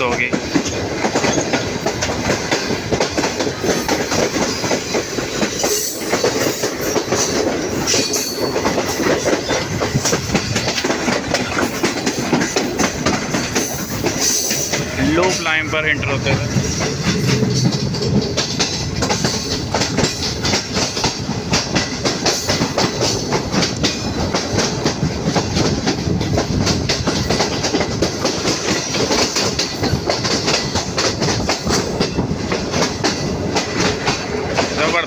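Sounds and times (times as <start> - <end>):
train rumble: 0.0 - 35.0
train wheels clattering over rail joints: 0.0 - 35.0.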